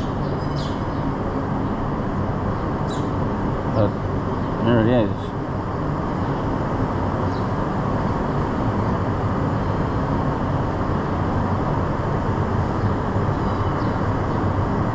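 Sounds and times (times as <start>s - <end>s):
air conditioning units droning: 0.0s - 14.9s.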